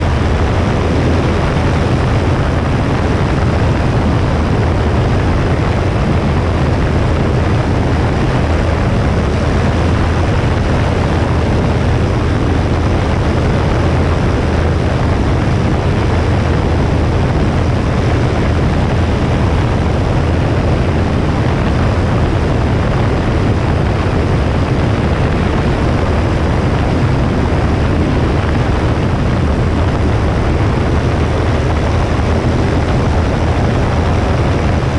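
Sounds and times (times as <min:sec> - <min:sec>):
airplane engine and propeller drone: 0:00.0 - 0:34.9
wind rushing over microphone: 0:00.0 - 0:34.9.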